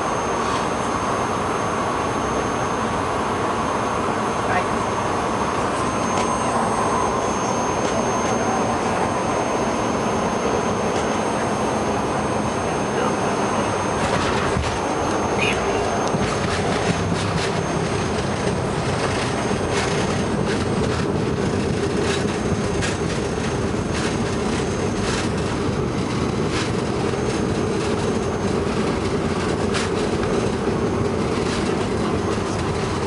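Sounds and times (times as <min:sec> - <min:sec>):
airplane engine and airflow rumble: 0:00.0 - 0:33.0.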